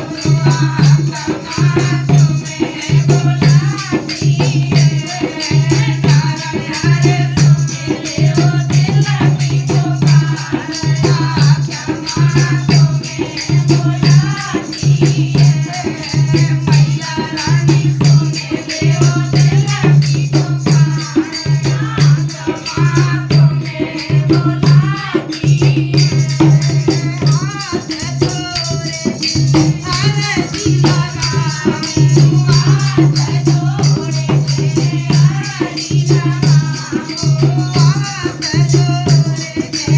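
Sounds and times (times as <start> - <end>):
devotional song sung to a beat: 0.0 - 39.9
rattling percussion: 0.0 - 39.9.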